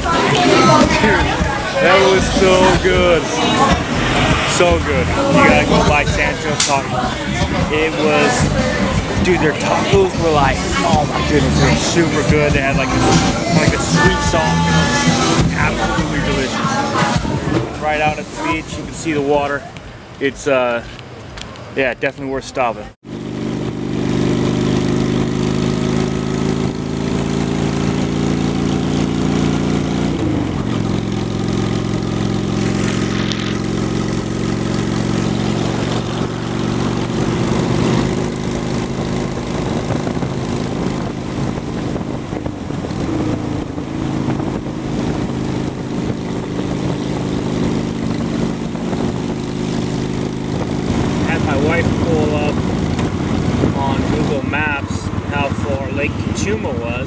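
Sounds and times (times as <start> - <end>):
motorcycle engine running: 0.0 - 18.5, 23.0 - 57.0.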